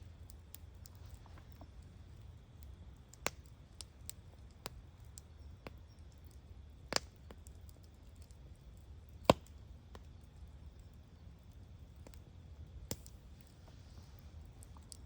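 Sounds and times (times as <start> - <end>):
campfire crackling: 0.0 - 15.0
sharp snaps of burning wood: 0.0 - 15.0.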